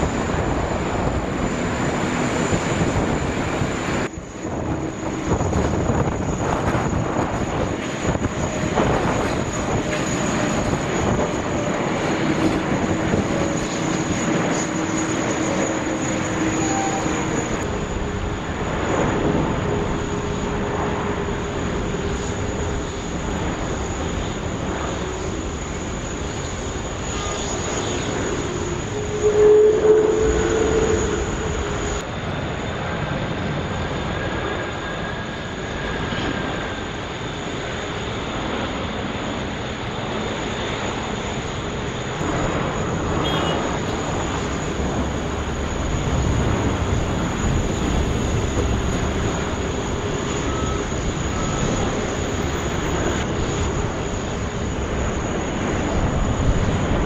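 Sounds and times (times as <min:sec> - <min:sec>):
jet airliner engines landing: 0:00.0 - 0:57.0.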